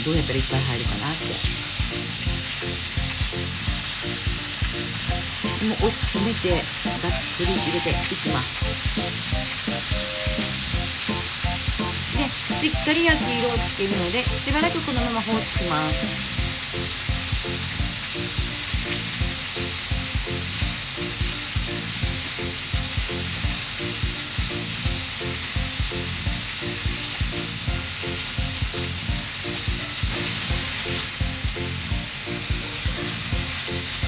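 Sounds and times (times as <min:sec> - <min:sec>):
chicken sizzling in hot oil: 0:00.0 - 0:34.0.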